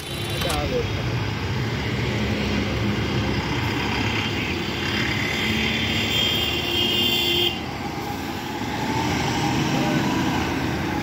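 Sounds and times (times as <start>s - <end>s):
diesel bus engine rumbling: 0.0s - 6.2s, 7.3s - 11.0s.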